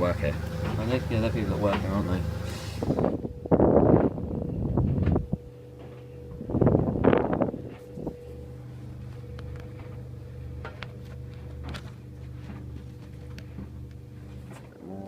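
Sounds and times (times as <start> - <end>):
tumble dryer humming: 0.0 - 15.0.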